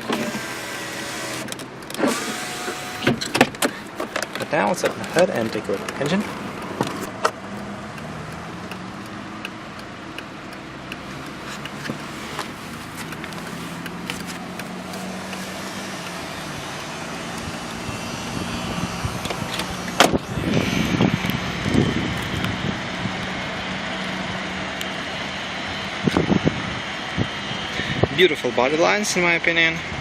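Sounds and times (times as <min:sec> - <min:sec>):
car engine idling: 0:00.0 - 0:29.6.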